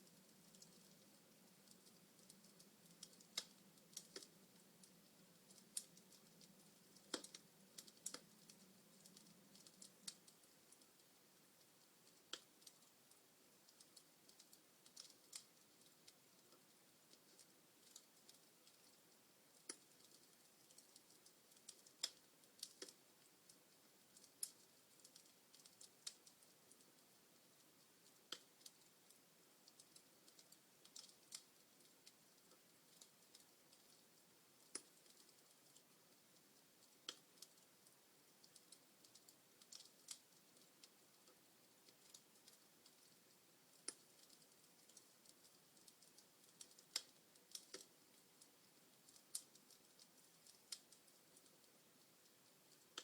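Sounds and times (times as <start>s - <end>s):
faint hiss: 0.0s - 53.0s
log fire crackling: 0.0s - 53.0s.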